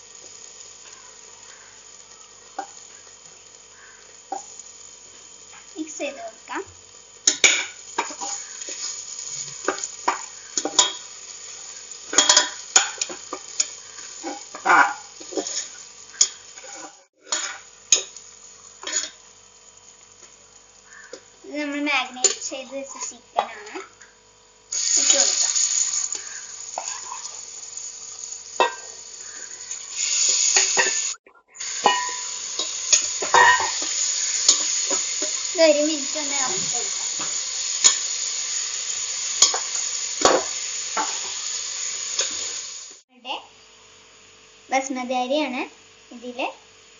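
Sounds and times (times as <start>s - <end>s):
light frying sizzle: 0.0s - 46.9s.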